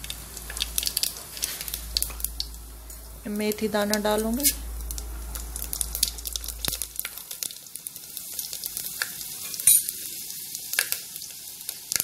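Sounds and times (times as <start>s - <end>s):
seeds sizzling in hot oil: 0.0s - 12.0s
sharp crackles: 0.0s - 12.0s.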